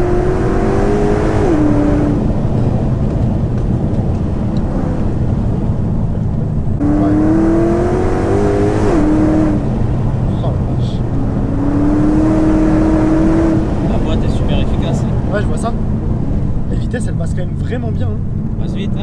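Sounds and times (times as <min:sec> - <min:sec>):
gear upshift: 0:00.0 - 0:16.8
car engine accelerating hard: 0:00.0 - 0:19.0.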